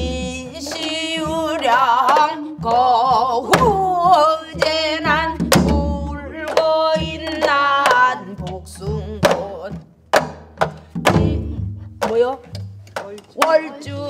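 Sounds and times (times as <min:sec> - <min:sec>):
woman singing in a wavering voice: 0:00.0 - 0:09.8, 0:11.0 - 0:14.0.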